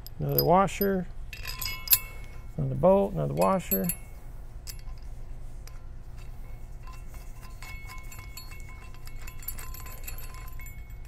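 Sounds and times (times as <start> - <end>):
metal bolts and washers clinking: 0.0 - 11.0.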